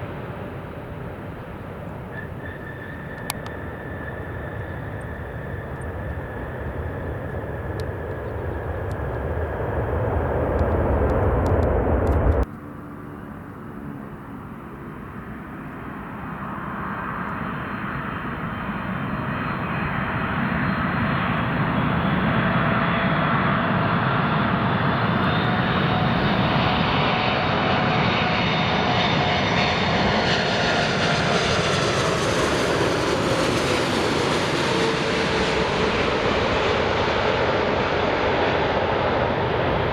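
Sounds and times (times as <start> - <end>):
jet engines whining: 0.0 - 13.1, 16.5 - 39.9
jet engines rumbling: 0.0 - 39.9.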